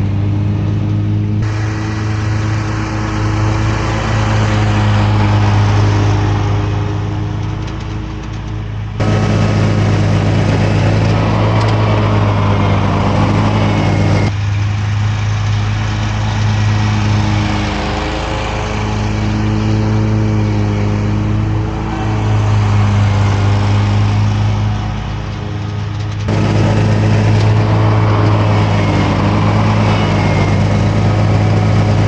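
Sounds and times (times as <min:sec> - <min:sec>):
small gasoline engine running: 0:00.0 - 0:32.0.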